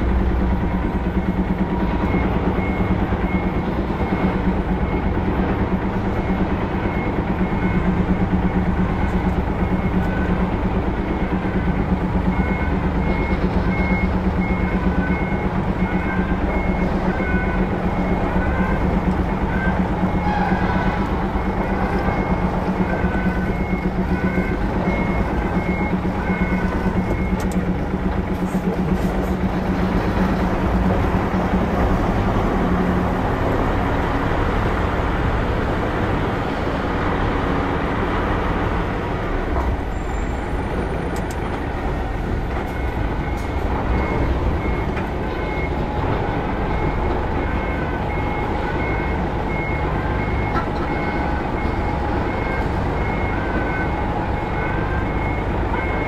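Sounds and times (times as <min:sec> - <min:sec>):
diesel truck engine running: 0:00.0 - 0:56.0
reversing alarm beeping: 0:00.0 - 0:56.0.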